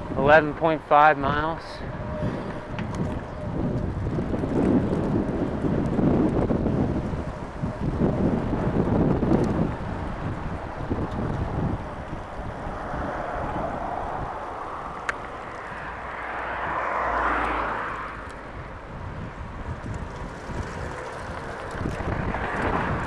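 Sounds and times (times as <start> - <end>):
wind rumbling on microphone: 0.0 - 23.0
motor vehicle passing: 1.8 - 23.0.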